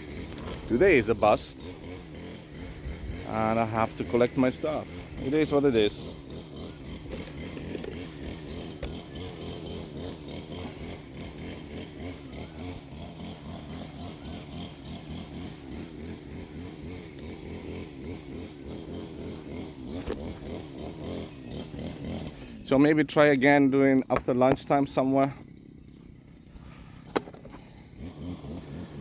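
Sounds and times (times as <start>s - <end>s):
small engine droning: 0.0s - 29.0s.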